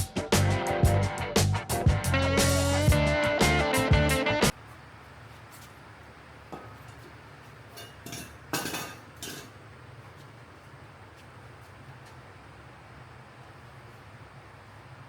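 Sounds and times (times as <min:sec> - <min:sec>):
faint background hum: 0:02.9 - 0:15.0.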